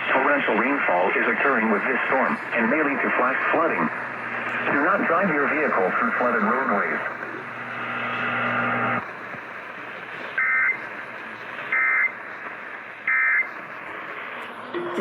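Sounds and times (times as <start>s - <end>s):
radio hiss: 0.0s - 15.0s
steady hum: 0.0s - 15.0s.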